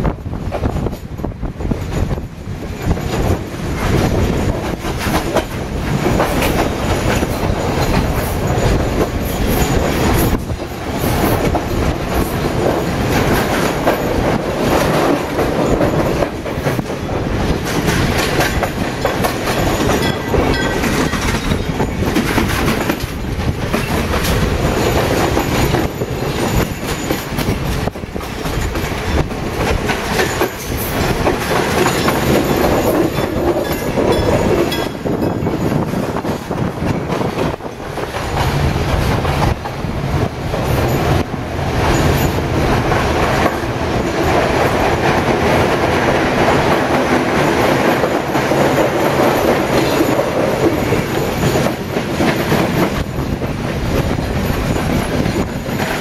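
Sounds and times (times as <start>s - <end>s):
train rolling rumble: 0.0s - 56.0s
wheels clacking over rail joints: 0.4s - 56.0s.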